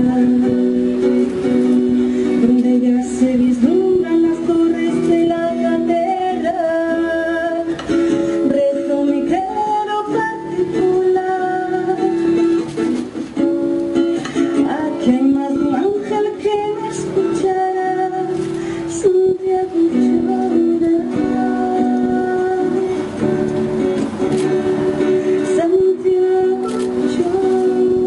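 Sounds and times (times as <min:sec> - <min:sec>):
person singing: 0:00.0 - 0:12.8, 0:14.5 - 0:28.0
plucked strings: 0:00.0 - 0:28.0.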